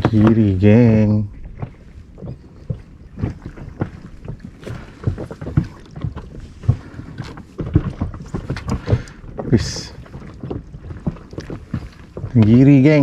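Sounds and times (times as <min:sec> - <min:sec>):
low knocks on hull: 0:00.0 - 0:13.0
water slapping against a boat: 0:00.0 - 0:13.0.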